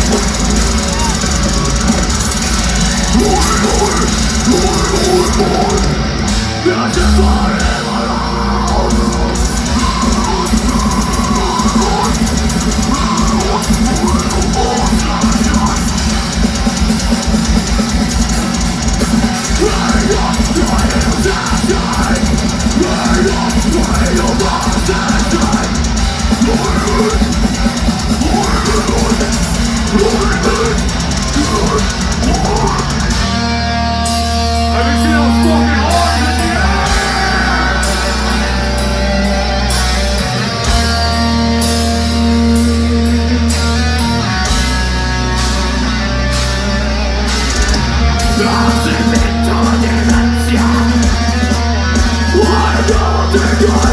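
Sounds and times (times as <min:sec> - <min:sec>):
bass guitar: 0:00.0 - 0:53.9
distorted electric guitars: 0:00.0 - 0:53.9
drum kit: 0:00.0 - 0:53.9
metal vocals: 0:00.0 - 0:53.9.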